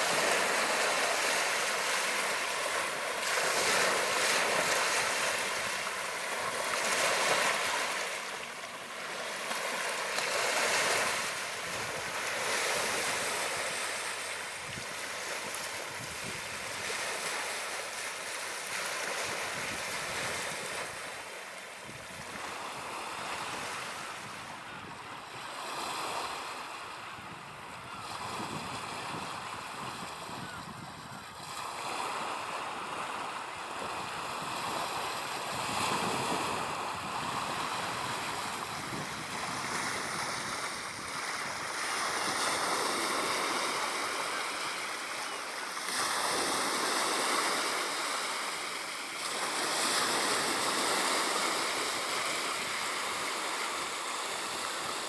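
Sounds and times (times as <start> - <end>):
sea waves breaking on a beach: 0.0 - 55.0.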